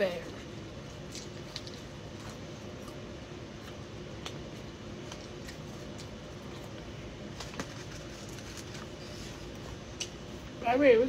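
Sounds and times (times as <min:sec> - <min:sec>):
low steady hum: 0:00.0 - 0:11.0
person chewing: 0:00.4 - 0:10.4.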